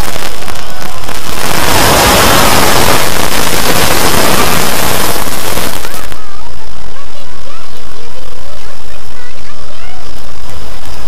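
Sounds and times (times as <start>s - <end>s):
distorted wall of noise: 0.0s - 11.0s.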